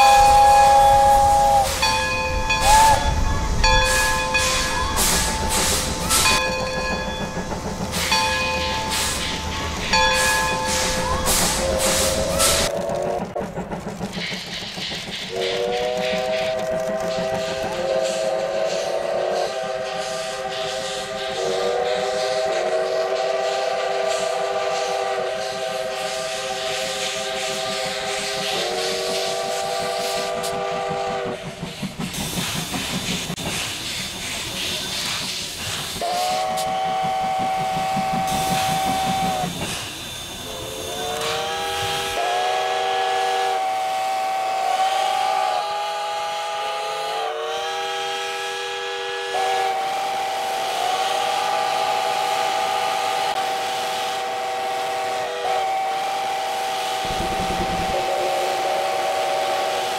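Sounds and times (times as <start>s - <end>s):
steam locomotive whistle: 0.0s - 7.4s, 8.0s - 13.2s, 15.3s - 31.5s, 36.0s - 59.9s
steam hiss: 0.0s - 59.9s.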